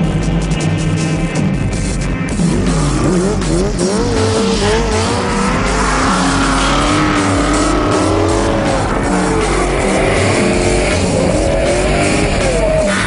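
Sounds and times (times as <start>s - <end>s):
background music: 0.0s - 13.0s
car engine revving: 0.0s - 13.0s.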